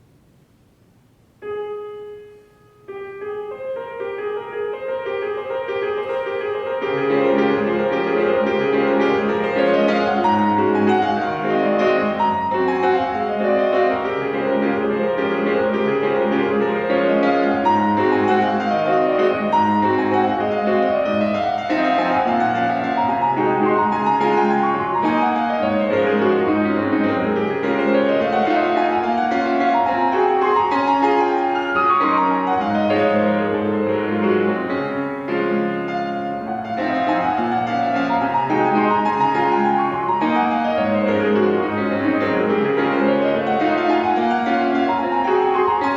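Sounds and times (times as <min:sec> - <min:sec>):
solo classical piano: 0:00.0 - 0:45.9.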